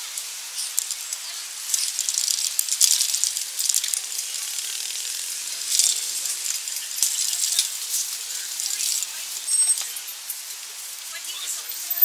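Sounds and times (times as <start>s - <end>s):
filtered hiss and crackle: 0.0s - 12.0s.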